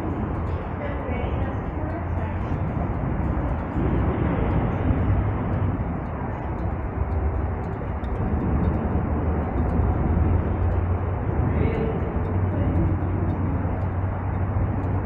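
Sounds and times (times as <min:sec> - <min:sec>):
bike riding noise: 0:00.0 - 0:15.0
wind rushing on microphone: 0:00.0 - 0:15.0.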